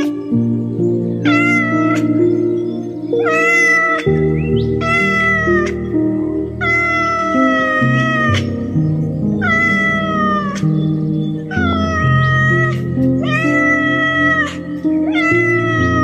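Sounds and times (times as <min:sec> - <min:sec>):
background music with low notes: 0:00.0 - 0:16.0
cat meowing: 0:01.2 - 0:02.3, 0:03.1 - 0:16.0.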